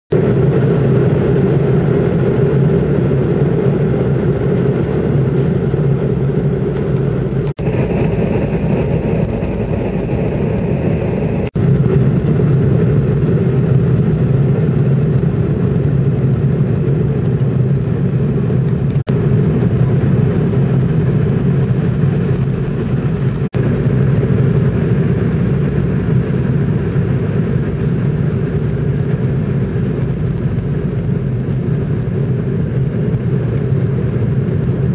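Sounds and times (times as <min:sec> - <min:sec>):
jet engine cabin drone: 0:00.1 - 0:34.9.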